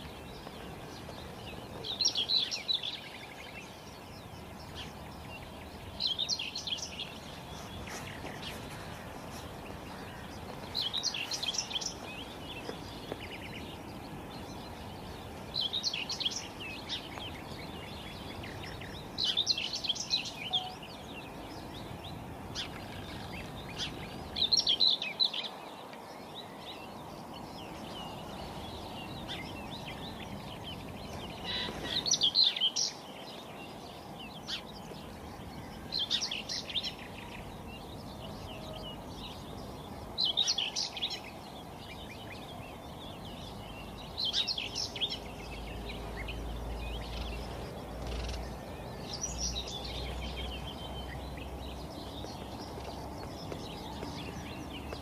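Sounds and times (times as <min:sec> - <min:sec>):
low background noise: 0:00.0 - 0:55.0
songbird singing: 0:00.0 - 0:55.0.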